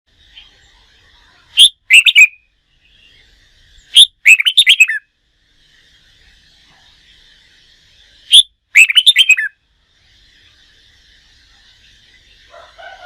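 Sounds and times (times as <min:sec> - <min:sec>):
bulbul warbled song: 0:00.1 - 0:13.0
faint twittering: 0:00.1 - 0:13.0.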